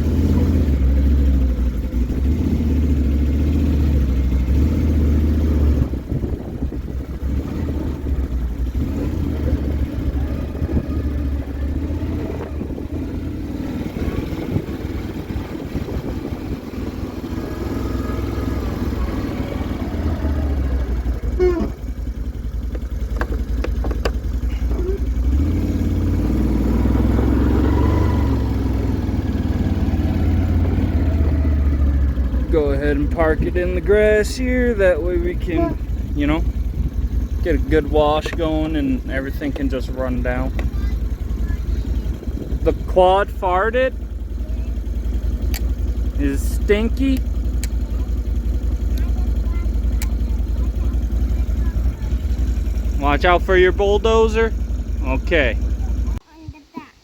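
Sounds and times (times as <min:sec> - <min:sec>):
quad engine running: 0:00.0 - 0:56.2.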